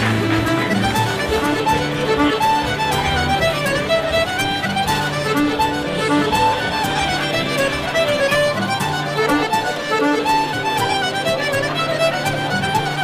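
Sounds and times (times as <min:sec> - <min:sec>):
fiddle playing quick notes: 0:00.0 - 0:13.0
low accompaniment: 0:00.0 - 0:13.0.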